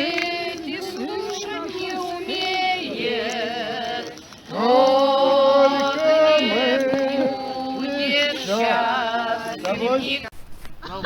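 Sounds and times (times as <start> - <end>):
people singing together: 0.0 - 10.3.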